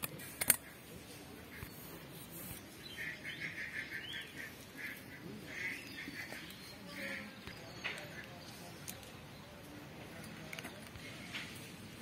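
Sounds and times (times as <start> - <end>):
bird chirping: 1.5 - 11.3.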